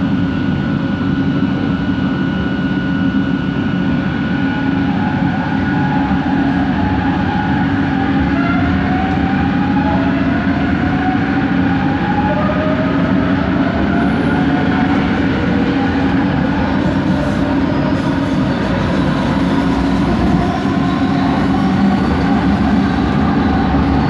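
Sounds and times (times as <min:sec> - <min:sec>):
train running rumble: 0:03.9 - 0:24.0
train motor whine rising: 0:04.5 - 0:24.0.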